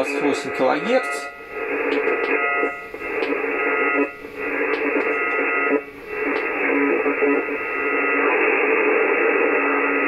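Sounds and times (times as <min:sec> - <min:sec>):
faint steady whistles: 0:00.0 - 0:10.0
radio static hiss: 0:00.0 - 0:10.0
weak radio station: 0:00.0 - 0:10.0.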